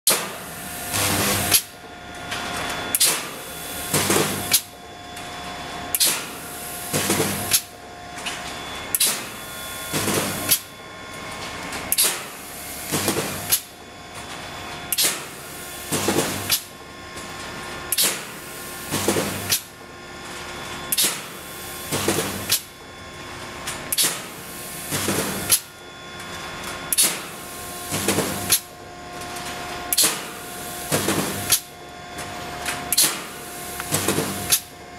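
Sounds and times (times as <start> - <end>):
welding machine clanking: 0.1 - 5.3, 5.9 - 19.9, 20.9 - 22.9, 23.6 - 34.8
steady machine hum: 0.1 - 34.9.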